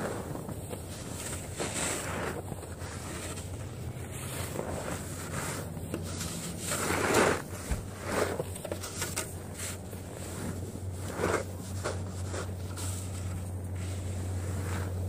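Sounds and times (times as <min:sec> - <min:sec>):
snow shovel scraping snow: 0:00.0 - 0:15.0.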